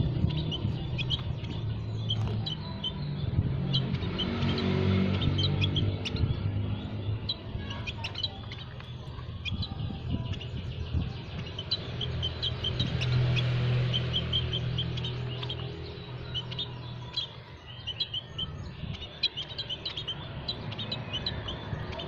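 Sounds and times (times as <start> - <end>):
low motor hum: 0.0 - 17.8
small birds chirping: 0.0 - 22.0.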